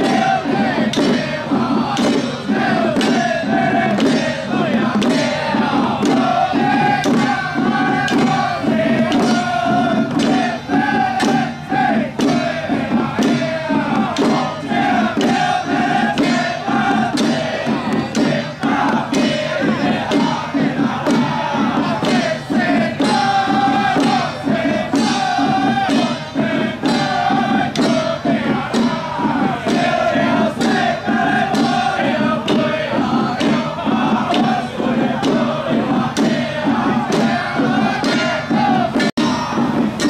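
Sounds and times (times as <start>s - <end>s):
men chanting and shouting: 0.0s - 40.0s.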